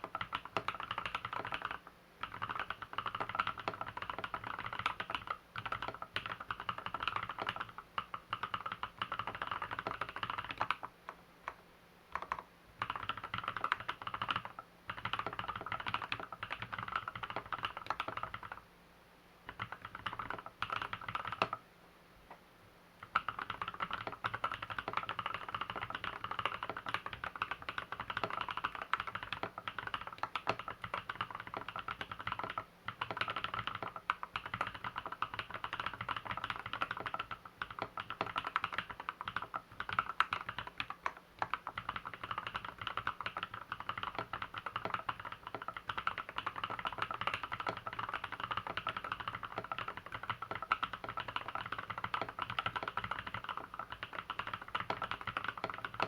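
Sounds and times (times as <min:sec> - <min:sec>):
keyboard typing: 0:00.0 - 0:18.6, 0:19.4 - 0:21.6, 0:23.0 - 0:56.0.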